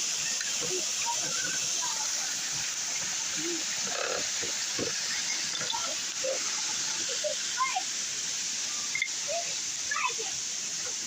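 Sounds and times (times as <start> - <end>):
flowing water: 0.0 - 11.0.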